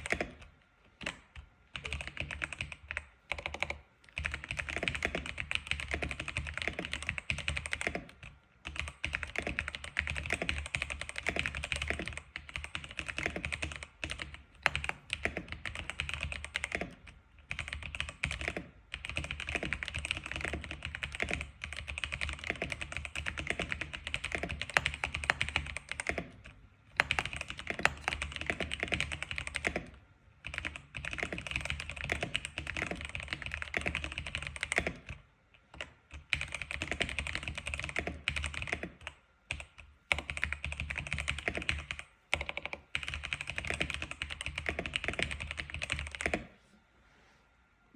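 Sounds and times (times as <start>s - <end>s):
keyboard typing: 0.0s - 46.5s.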